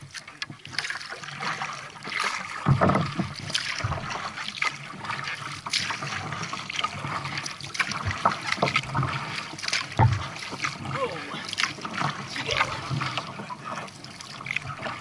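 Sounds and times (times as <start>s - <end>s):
paddle splashing in water: 0.0s - 15.0s
water trickling and dripping: 0.0s - 15.0s.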